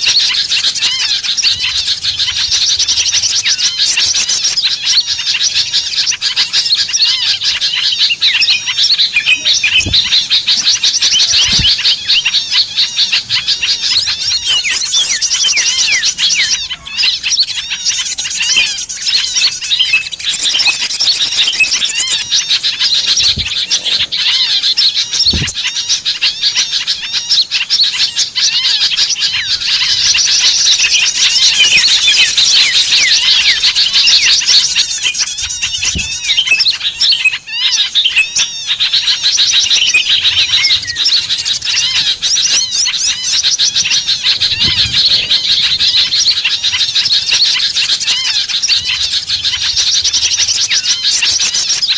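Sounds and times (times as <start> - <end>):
songbirds chirping chorus: 0.0 - 51.9.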